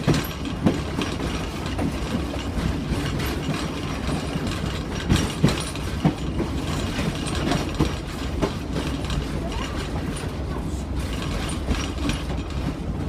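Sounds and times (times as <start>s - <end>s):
train clanks and clicks: 0.0s - 13.0s
train rumbling on track: 0.0s - 13.0s.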